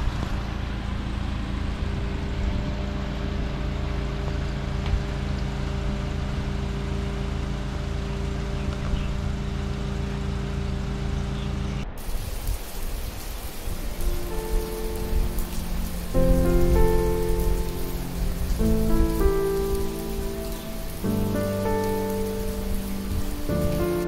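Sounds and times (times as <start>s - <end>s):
road noise: 0.0s - 24.0s
vehicle engine droning: 0.0s - 24.0s.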